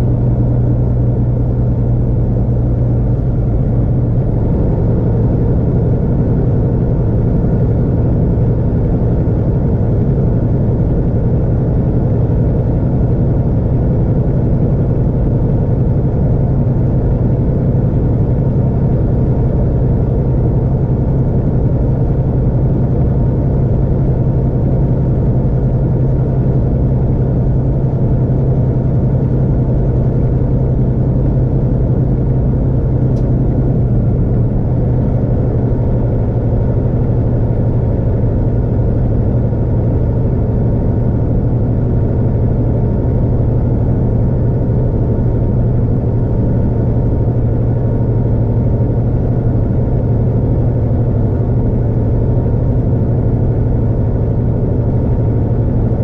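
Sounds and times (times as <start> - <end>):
vehicle engine and tyre drone: 0.0 - 56.0.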